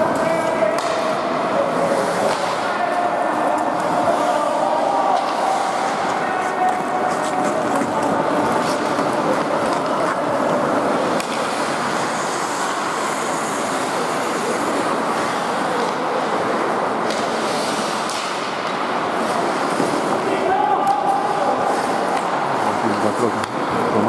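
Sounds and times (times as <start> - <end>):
hockey sticks and puck clacking: 0.0 - 23.8
ice skates scraping on ice: 0.2 - 22.2.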